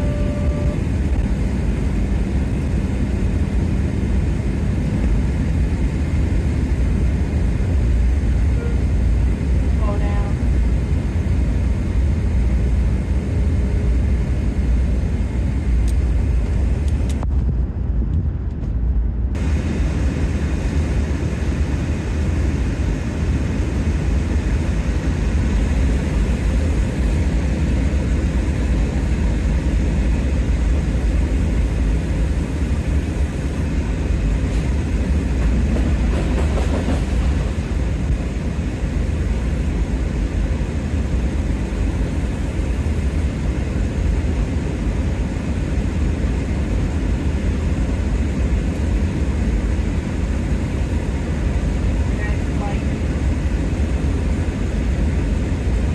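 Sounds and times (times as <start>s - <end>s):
loud rushing airflow and engines: 0.0s - 55.9s.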